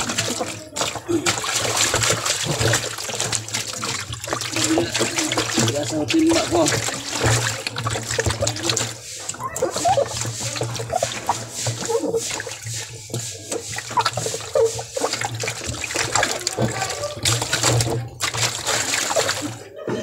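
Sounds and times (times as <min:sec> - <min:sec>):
water splashing into plastic bucket: 0:00.0 - 0:19.8.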